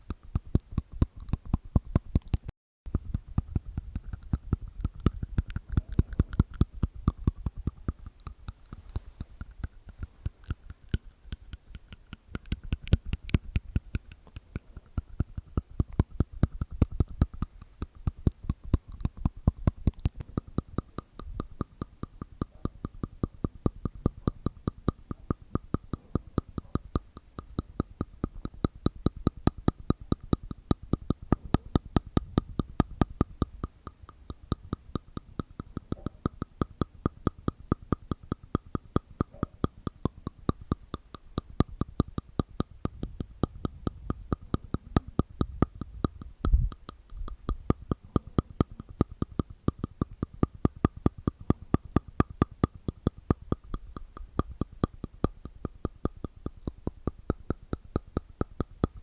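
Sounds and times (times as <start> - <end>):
mouth clicks: 0.0 - 59.0.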